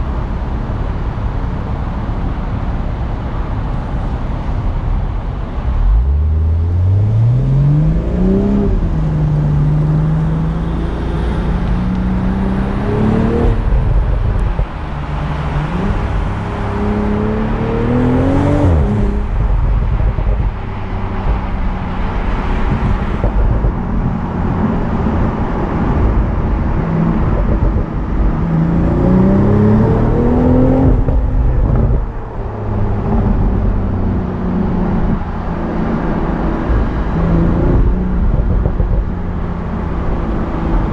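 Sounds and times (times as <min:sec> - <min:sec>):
road and wind noise: 0:00.0 - 0:40.9
car engine accelerating: 0:04.0 - 0:40.9.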